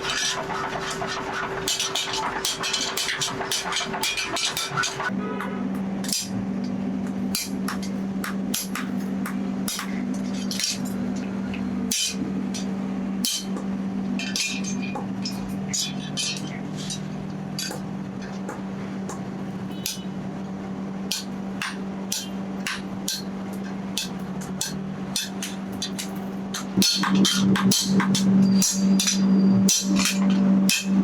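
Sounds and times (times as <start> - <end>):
hammer striking steel: 0.0 - 20.2, 21.0 - 31.0
steady low hum: 0.0 - 31.0.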